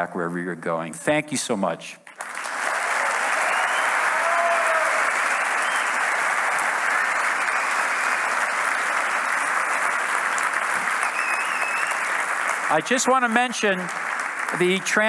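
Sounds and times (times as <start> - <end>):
large audience applauding: 2.1 - 15.0.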